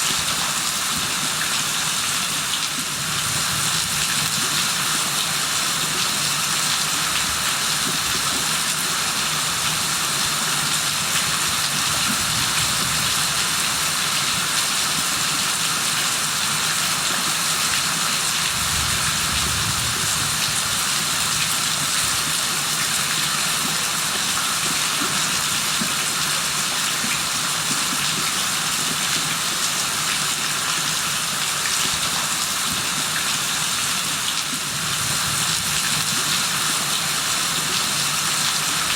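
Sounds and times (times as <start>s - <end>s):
rain falling: 0.1s - 38.9s.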